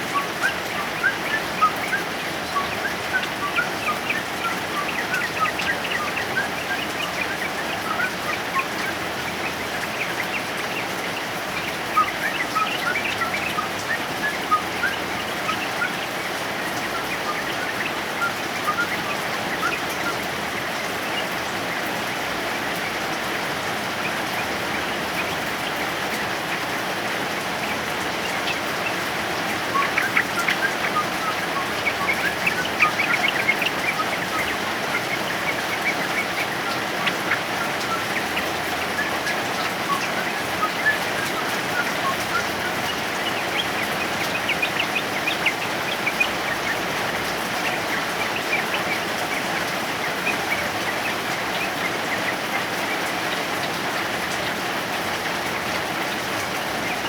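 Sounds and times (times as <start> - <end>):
bird singing chattering runs: 0.0 - 57.0
heavy rain: 0.0 - 57.0.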